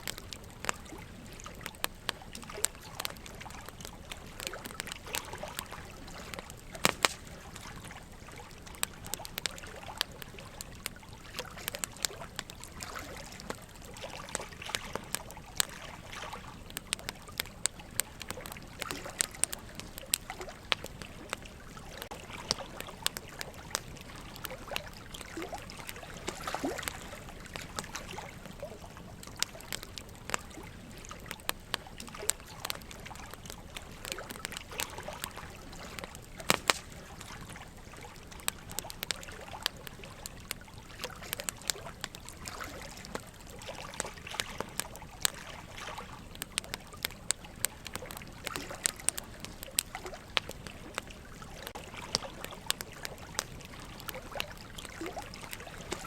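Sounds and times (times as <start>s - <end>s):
burning logs crackling: 0.0s - 56.0s.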